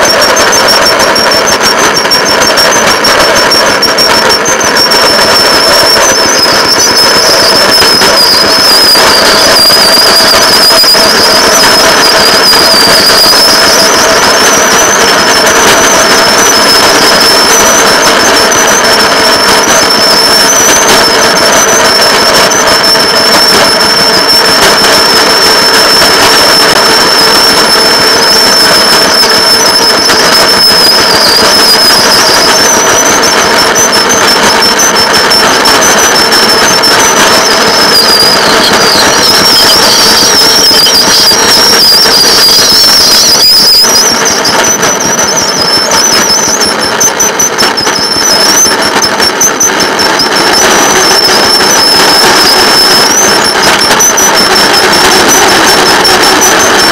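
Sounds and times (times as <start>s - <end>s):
high steady whine: 0.0s - 56.9s.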